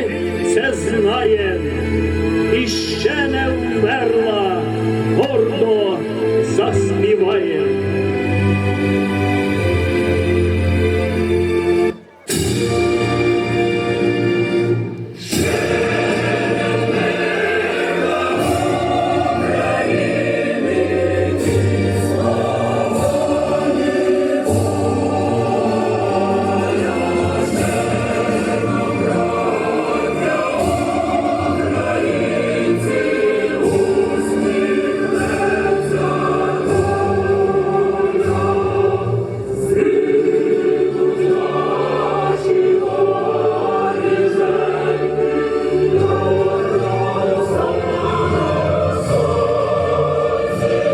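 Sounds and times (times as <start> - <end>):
choir singing: 0.0 - 50.9
musical accompaniment: 0.0 - 50.9.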